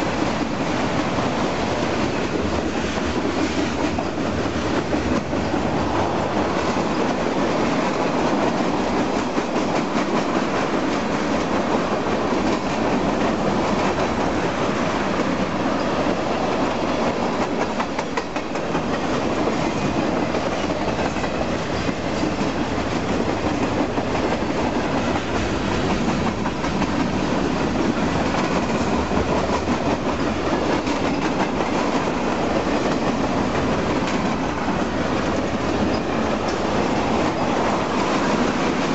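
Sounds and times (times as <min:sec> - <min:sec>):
freight train rumbling past: 0:00.0 - 0:38.9
wheels clicking over rail joints: 0:01.8 - 0:38.9.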